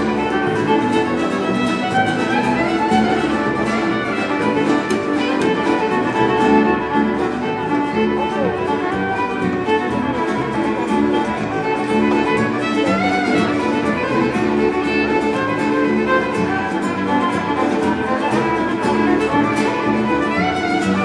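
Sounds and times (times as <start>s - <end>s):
acoustic guitar: 0.0s - 21.0s
fiddle: 0.0s - 21.0s
upright bass: 0.0s - 21.0s.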